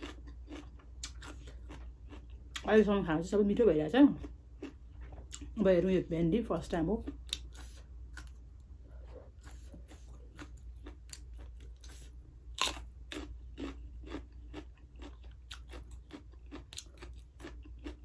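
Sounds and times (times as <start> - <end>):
chewing crunchy vegetable: 0.0 - 2.8, 4.1 - 5.6, 6.9 - 18.0.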